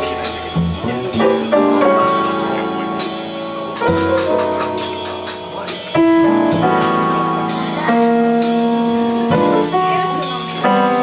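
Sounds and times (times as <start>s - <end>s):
double bass: 0.0s - 11.0s
piano chords: 0.0s - 11.0s.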